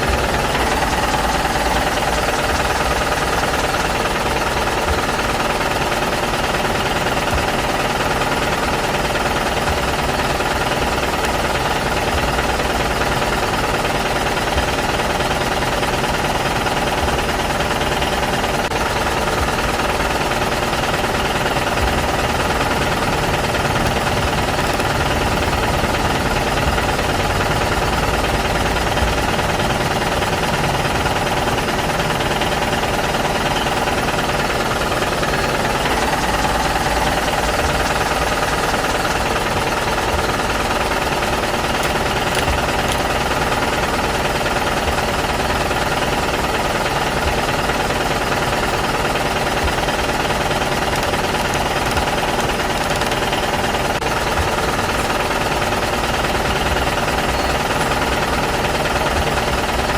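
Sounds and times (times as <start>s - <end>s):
motor rattling: 0.0s - 59.9s.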